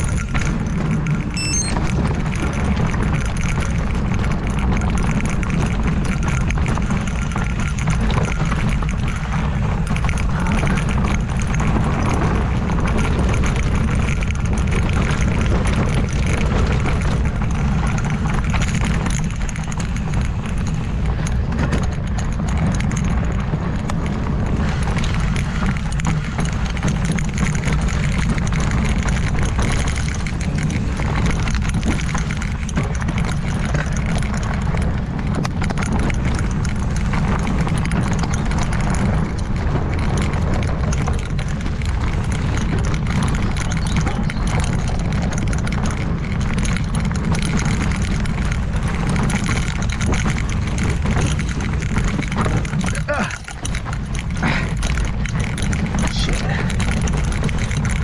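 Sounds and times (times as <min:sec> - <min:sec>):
mountain bike rattling over rocks: 0:00.0 - 0:01.3, 0:01.9 - 0:58.0
wind rumbling on microphone: 0:00.0 - 0:58.0.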